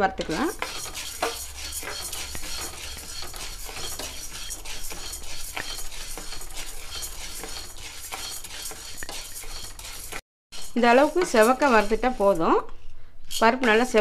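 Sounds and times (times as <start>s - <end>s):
spatula scraping a pan: 0.0s - 14.0s
dry lentils rattling in pan: 0.2s - 12.6s.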